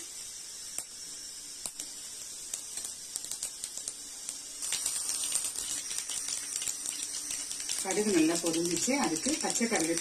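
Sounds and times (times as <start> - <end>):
seeds sizzling in hot oil: 0.0 - 10.0
mustard seeds popping: 1.6 - 10.0.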